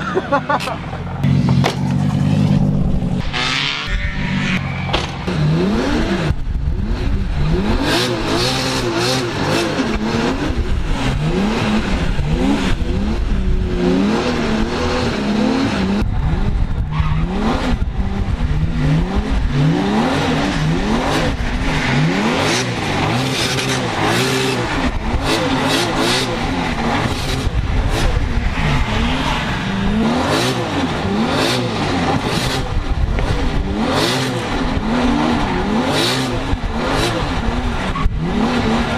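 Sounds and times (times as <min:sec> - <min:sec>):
drift car engine revving: 0:00.0 - 0:38.9.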